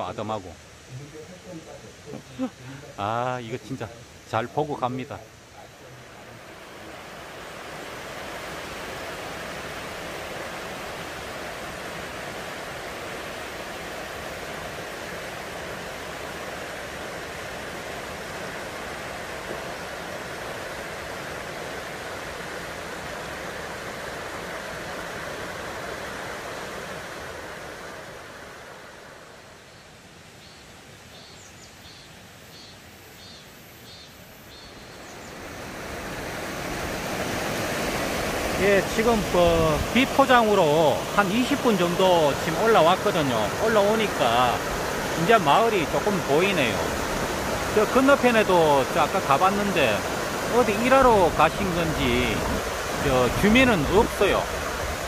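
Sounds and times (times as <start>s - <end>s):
stream rushing over rocks: 0.0s - 31.0s, 34.7s - 55.0s.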